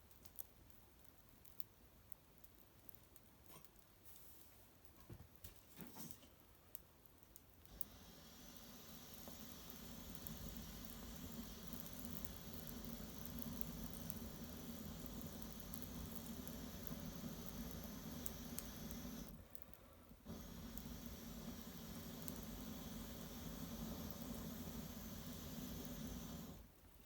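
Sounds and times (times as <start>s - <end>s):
brushwood fire burning: 0.0s - 5.0s, 6.7s - 27.0s
fire crackles: 0.0s - 5.6s, 6.4s - 27.0s.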